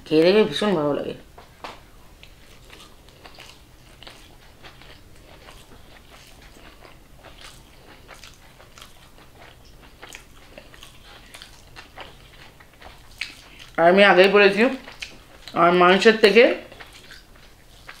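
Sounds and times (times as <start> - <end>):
person chewing food: 1.4 - 18.0.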